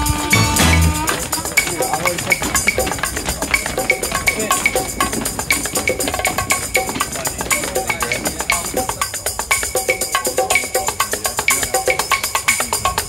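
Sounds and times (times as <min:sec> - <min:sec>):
music with quick percussive beat: 0:00.0 - 0:13.0.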